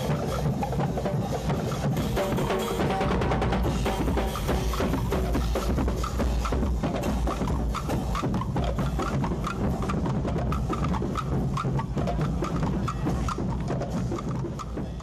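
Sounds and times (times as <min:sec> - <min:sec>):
parade drums beating: 0:00.0 - 0:15.0.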